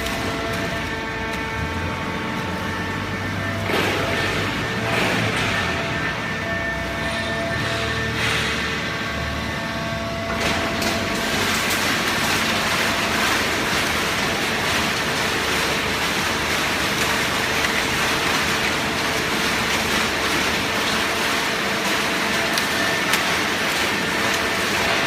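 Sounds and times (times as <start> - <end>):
baler machinery running: 0.0 - 25.0.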